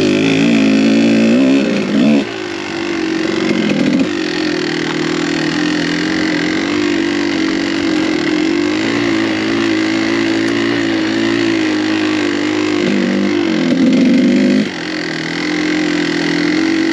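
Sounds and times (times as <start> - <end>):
two-stroke dirt bike engine: 0.0 - 16.9.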